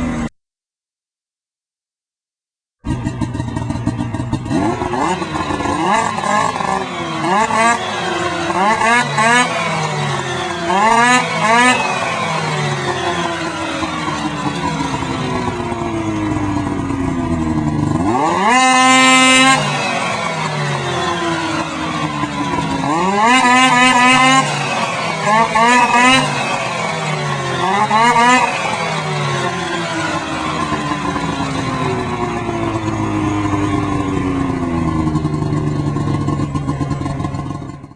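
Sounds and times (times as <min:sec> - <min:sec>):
snowmobile engine revving: 0:02.9 - 0:37.9.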